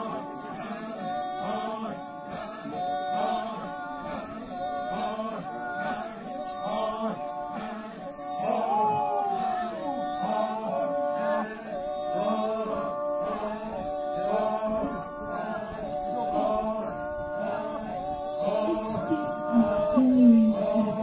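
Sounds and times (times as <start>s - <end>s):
men chanting together: 0.0s - 21.0s.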